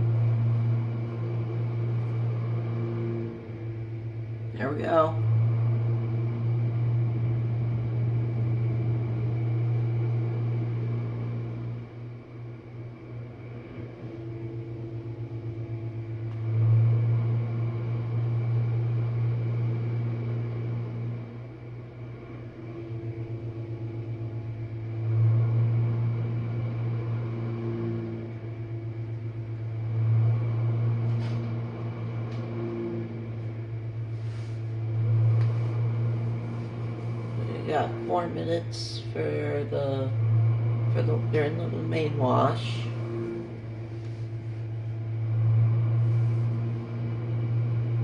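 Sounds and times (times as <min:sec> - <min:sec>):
dishwasher pump hum: 0:00.0 - 0:48.0.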